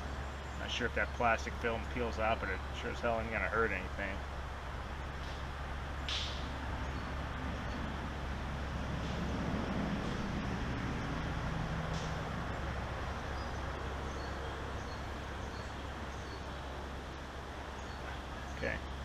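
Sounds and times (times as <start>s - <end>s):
roadside traffic noise: 0.0s - 19.0s
vehicle engine passing: 0.0s - 19.0s.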